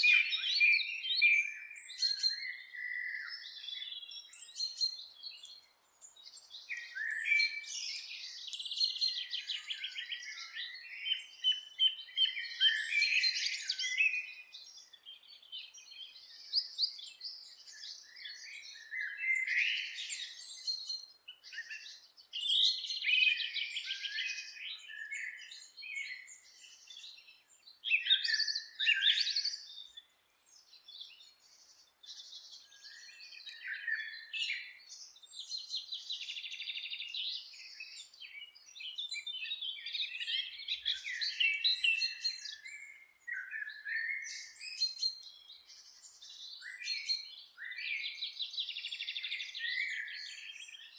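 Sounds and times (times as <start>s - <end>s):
forest birds singing and chirping: 0.0s - 50.9s.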